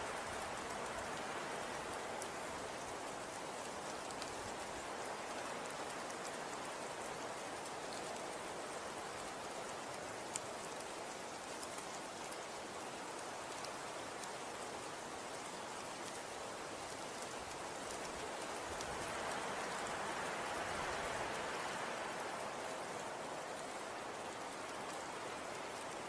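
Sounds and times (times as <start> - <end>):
snow falling soft hiss: 0.0 - 26.0.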